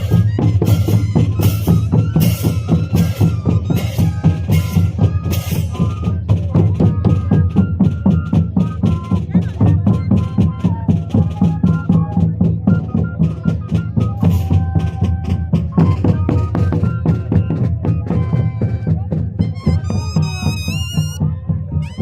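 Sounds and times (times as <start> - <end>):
flutes playing droning melody: 0.0 - 22.0
steady drum beat: 0.0 - 22.0.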